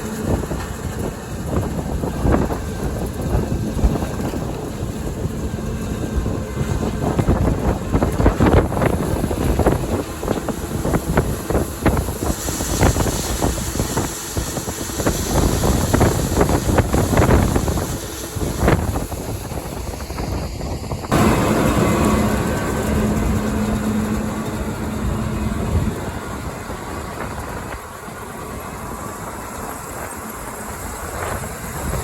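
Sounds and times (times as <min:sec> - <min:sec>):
combine harvester running: 0:00.0 - 0:32.0
wind buffeting microphone: 0:00.0 - 0:32.0.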